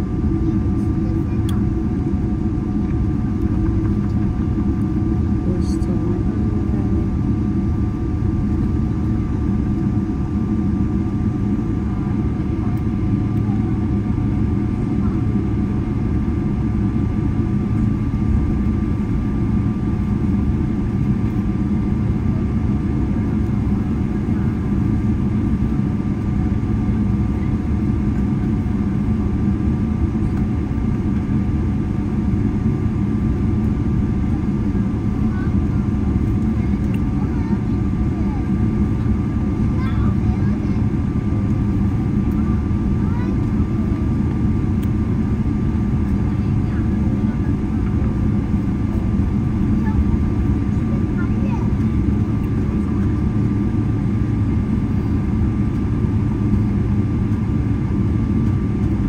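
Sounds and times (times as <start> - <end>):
jet engines idling rumble: 0.0 - 59.0.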